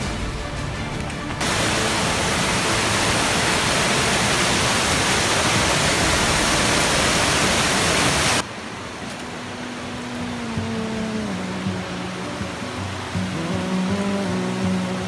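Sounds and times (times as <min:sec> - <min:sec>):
river cascade rushing: 0:00.0 - 0:15.0.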